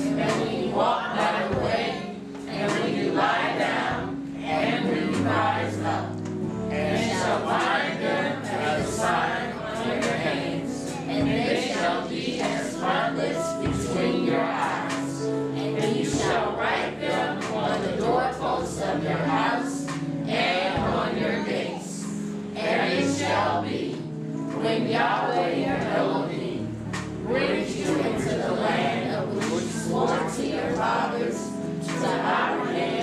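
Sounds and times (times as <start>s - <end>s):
group singing over music: 0.0s - 33.0s.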